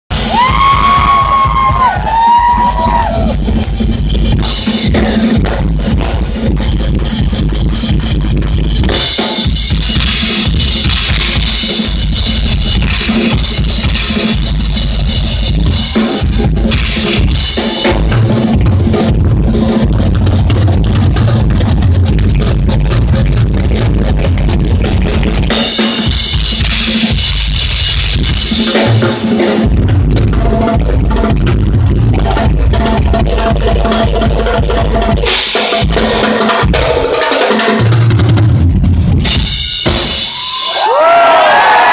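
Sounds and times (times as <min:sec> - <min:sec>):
rock drum kit solo: 0:00.0 - 0:41.9.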